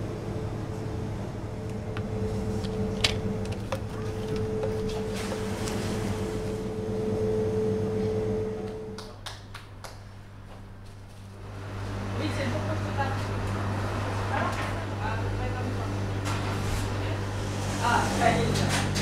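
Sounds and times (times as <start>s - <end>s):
kitchen machinery humming: 0.0s - 9.0s, 11.2s - 19.0s.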